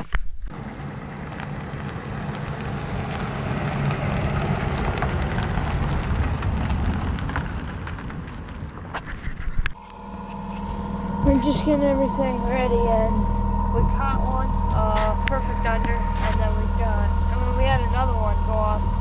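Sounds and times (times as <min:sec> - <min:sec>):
wind: 0:00.0 - 0:19.0
boat motor running: 0:00.5 - 0:07.2, 0:09.8 - 0:19.0.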